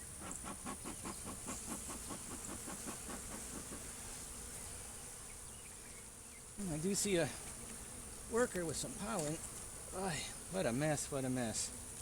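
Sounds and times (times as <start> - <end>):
honeybees buzzing: 0.0 - 12.0
steady high hiss: 0.0 - 12.0.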